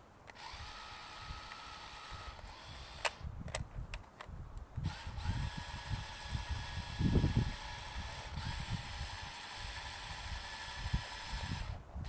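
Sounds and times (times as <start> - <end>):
small electric motor whining: 0.3 - 3.3, 4.8 - 12.0.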